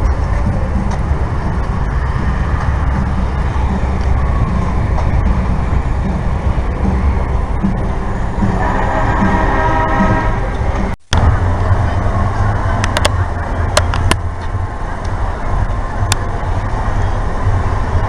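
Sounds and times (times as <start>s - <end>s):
low vehicle rumble: 0.0s - 18.0s
road noise: 0.0s - 18.0s.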